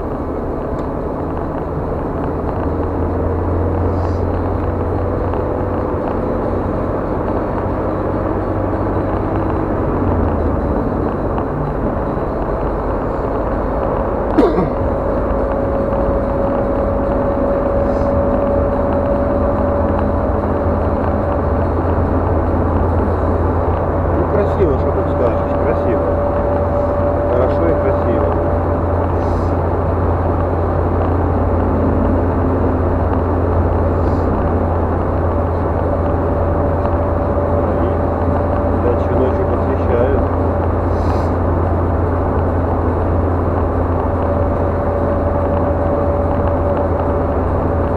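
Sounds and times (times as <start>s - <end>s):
road and engine rumble: 0.0s - 47.9s
tyres on asphalt: 0.0s - 47.9s.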